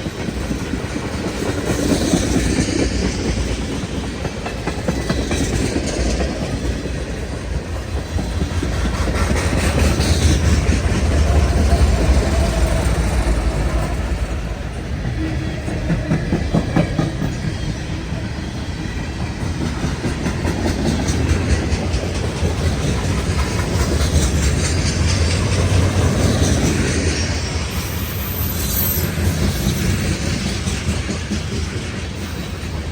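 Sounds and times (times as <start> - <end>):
wheels clicking over rail joints: 0.0 - 27.2
freight train rumbling past: 0.0 - 32.9.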